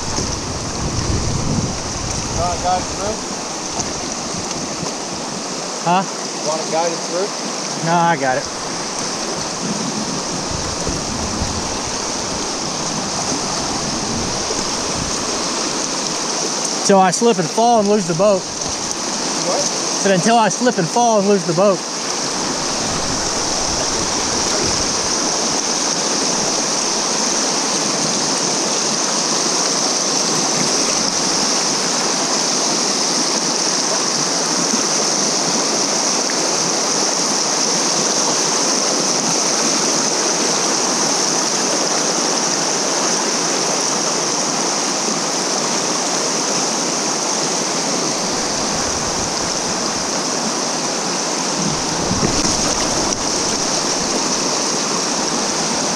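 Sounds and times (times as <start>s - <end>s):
river current rushing around boat hull: 0.0s - 55.9s.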